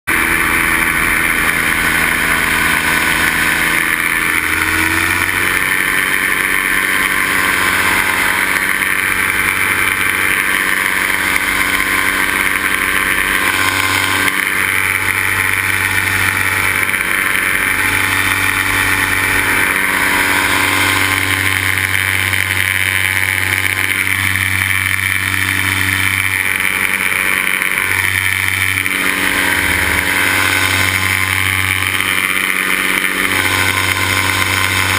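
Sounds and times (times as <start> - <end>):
paramotor engine and propeller: 0.1 - 34.9.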